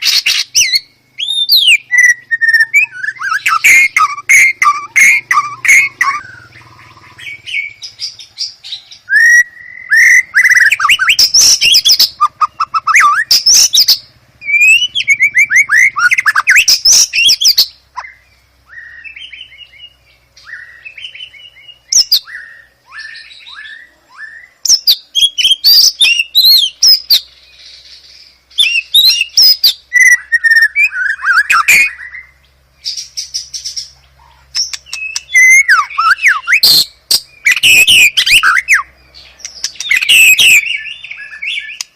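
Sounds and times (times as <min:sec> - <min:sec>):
songbird singing whistles and trills: 0:00.0 - 0:41.9.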